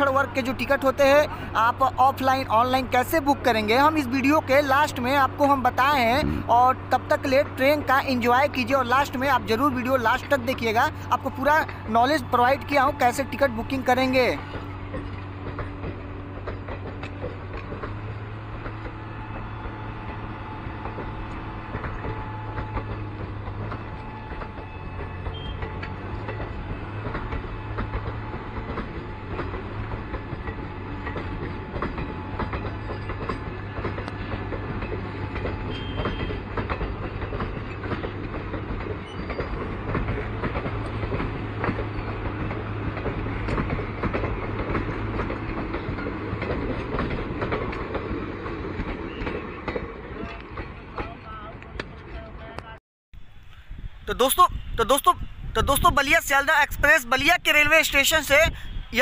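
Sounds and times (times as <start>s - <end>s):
train wheels clattering on rails: 0.0s - 52.5s.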